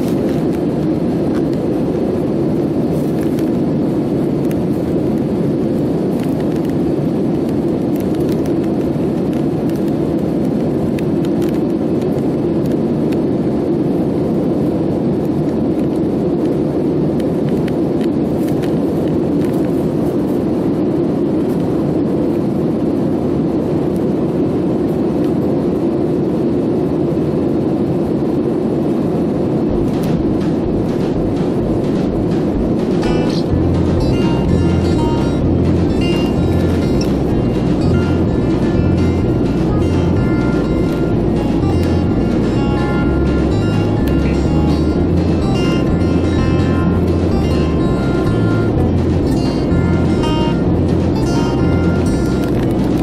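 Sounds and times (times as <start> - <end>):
airliner cabin engine drone: 0.0 - 53.0.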